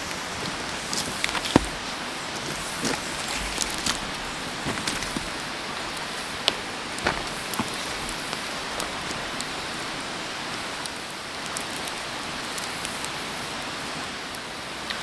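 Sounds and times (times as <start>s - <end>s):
sharp pops and crackles: 0.0s - 15.0s.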